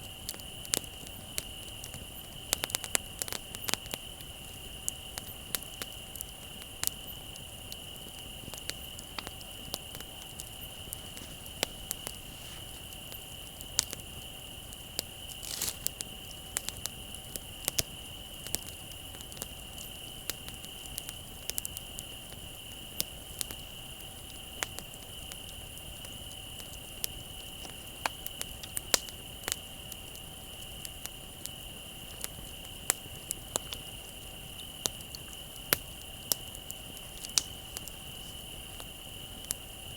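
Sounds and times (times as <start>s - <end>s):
bonfire crackling: 0.0s - 39.9s
crickets trilling: 0.0s - 39.9s.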